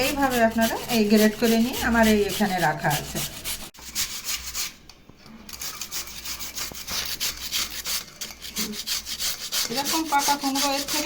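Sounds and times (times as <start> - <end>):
pumpkin grated on hand grater: 0.0 - 4.6, 5.6 - 11.0.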